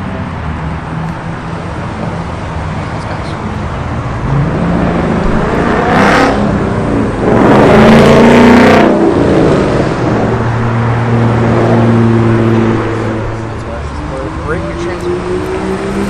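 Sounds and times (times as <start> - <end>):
car engine revving: 0.6 - 16.0
car accelerating hard: 1.8 - 16.0.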